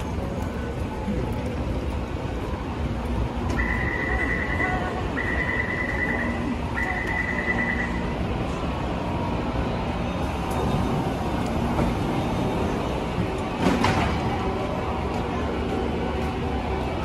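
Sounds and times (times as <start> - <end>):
train humming at platform: 0.0 - 17.0.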